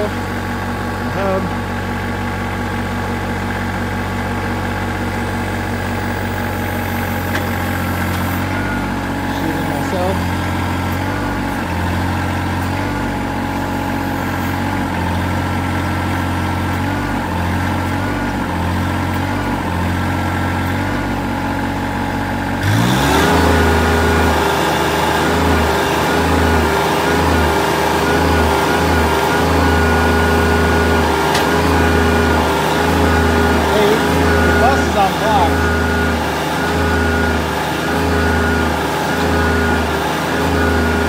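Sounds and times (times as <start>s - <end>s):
tractor engine revving: 0.0s - 41.0s.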